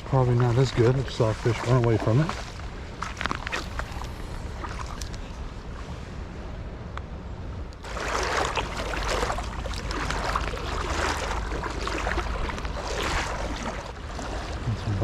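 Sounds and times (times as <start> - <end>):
creek water splashing and rushing: 0.0 - 5.4, 7.8 - 15.0
wind rumble on microphone: 0.0 - 15.0.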